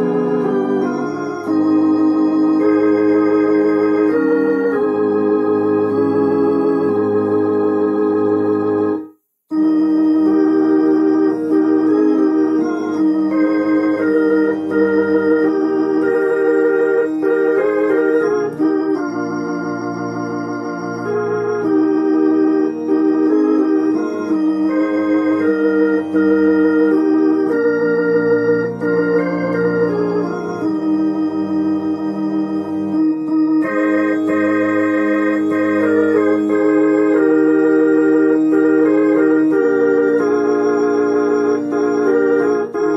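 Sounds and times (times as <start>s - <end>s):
organ hymn chords with vibrato: 0.0s - 42.9s.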